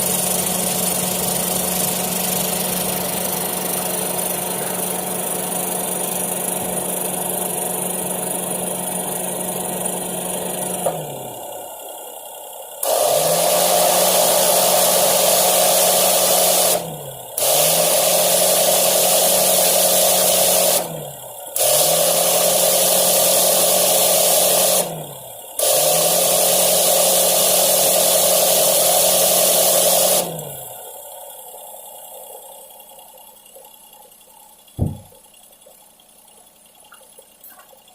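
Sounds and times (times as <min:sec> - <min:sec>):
loud motor with hiss: 0:00.0 - 0:32.6.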